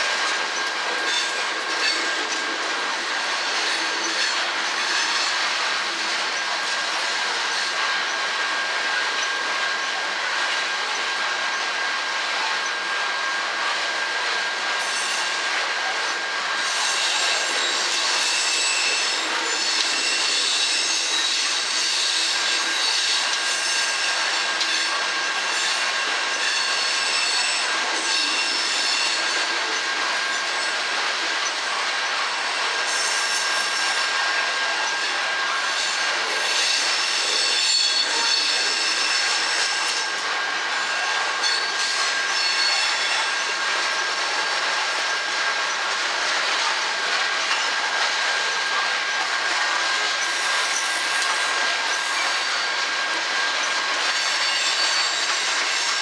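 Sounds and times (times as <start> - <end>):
steel wheels rolling on rail: 0.0 - 56.0.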